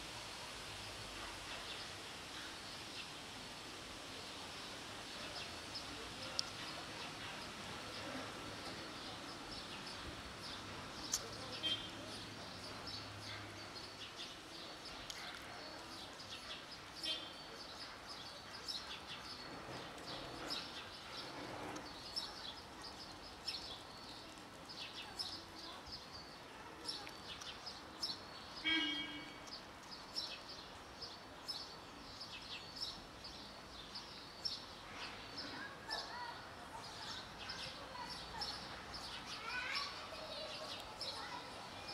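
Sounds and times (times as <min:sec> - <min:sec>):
faint background noise: 0:00.0 - 0:41.9
small birds chirping: 0:00.8 - 0:41.9.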